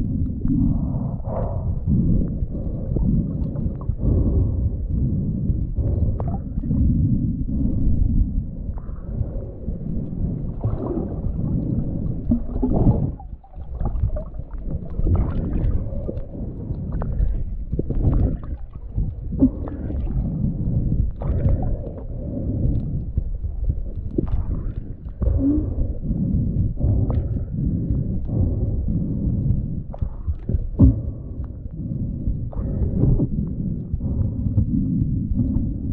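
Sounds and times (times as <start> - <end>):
muffled underwater water rumble: 0.0 - 35.9.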